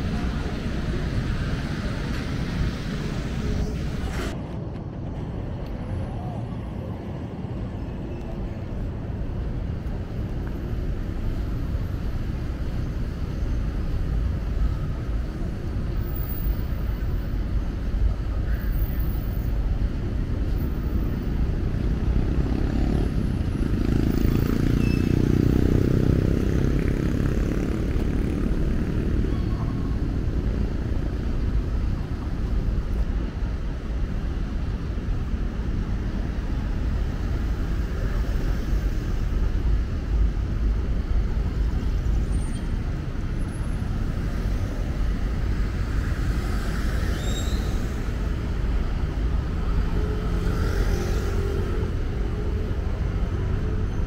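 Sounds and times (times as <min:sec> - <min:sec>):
passing cars rumbling: 0:00.0 - 0:54.0.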